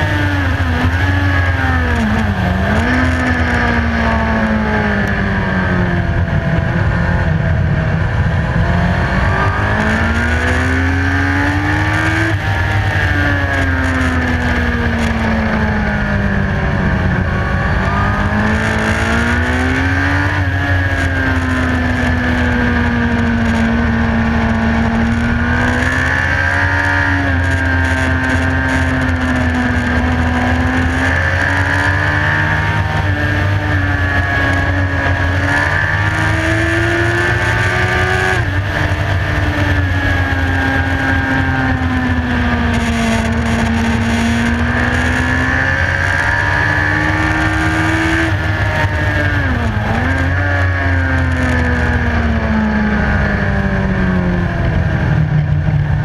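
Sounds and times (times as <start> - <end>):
motorcycle engine at high revs: 0.0 - 56.0
wind rumble on microphone: 0.0 - 56.0.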